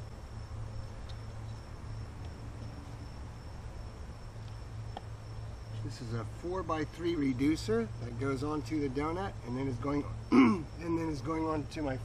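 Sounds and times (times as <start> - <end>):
high insect drone: 0.0 - 12.0
low steady hum: 0.0 - 12.0.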